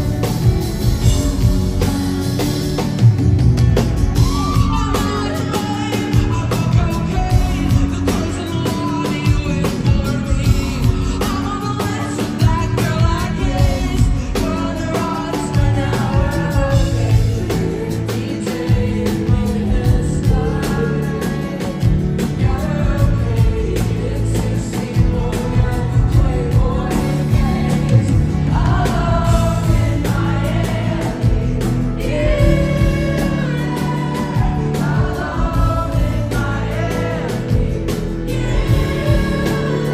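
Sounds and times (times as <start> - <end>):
live pop band playing: 0.0 - 39.9
woman singing: 4.2 - 39.9.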